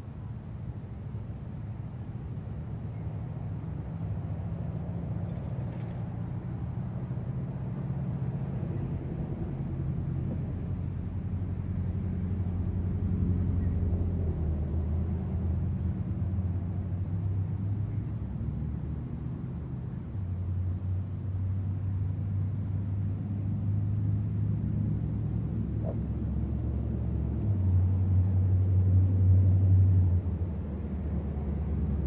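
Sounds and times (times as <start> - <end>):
low engine rumble: 0.0 - 32.0.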